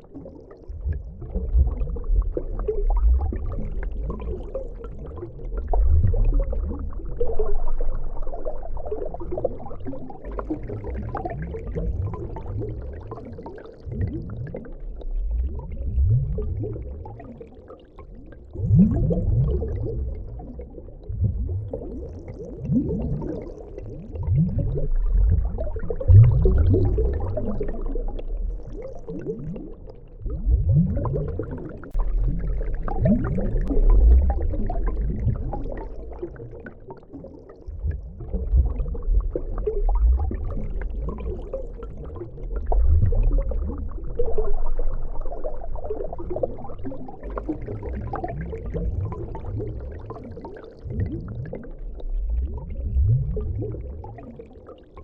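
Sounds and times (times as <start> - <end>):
underwater bubbling and gurgling: 0.0 - 55.0.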